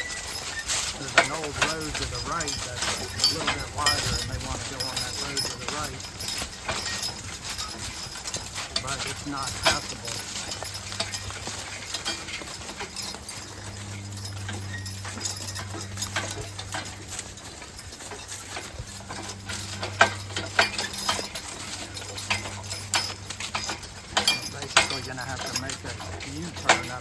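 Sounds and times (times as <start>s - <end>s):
horse hooves clopping: 0.0s - 27.0s
steady low hum: 0.0s - 27.0s.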